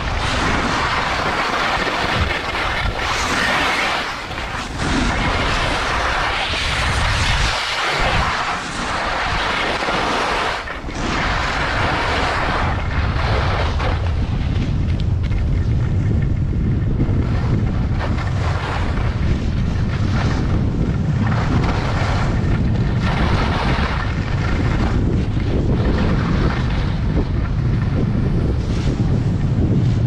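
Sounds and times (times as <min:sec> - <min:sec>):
skis scraping over snow: 0:00.0 - 0:30.0
wind rushing over microphone: 0:00.0 - 0:30.0.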